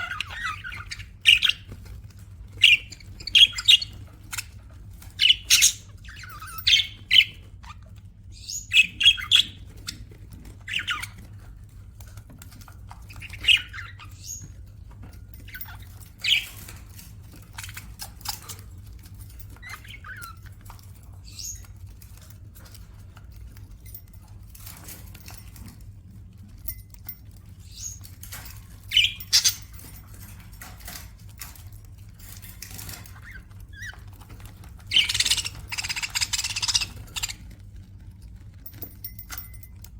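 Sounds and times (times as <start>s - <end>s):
budgerigars chirping and squawking: 0.0s - 23.5s, 27.6s - 31.6s, 32.3s - 37.6s.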